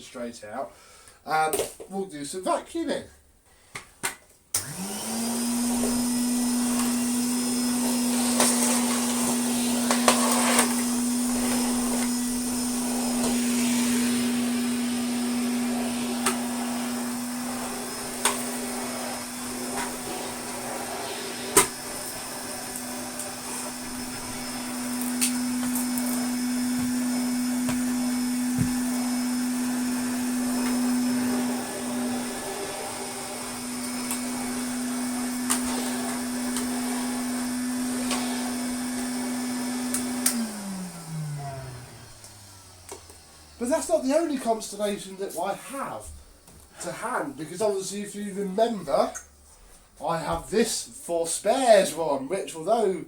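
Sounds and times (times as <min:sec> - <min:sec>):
vacuum cleaner running: 0:04.6 - 0:48.8.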